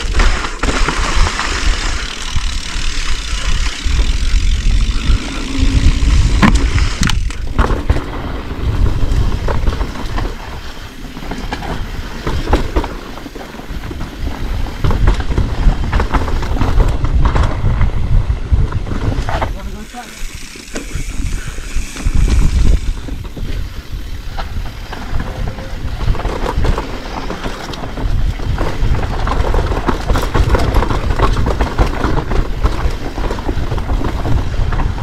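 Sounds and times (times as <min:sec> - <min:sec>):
bike clicks and rattles: 0:00.0 - 0:35.0
tyres rolling on dirt: 0:00.0 - 0:35.0
wind rumble on microphone: 0:00.0 - 0:35.0.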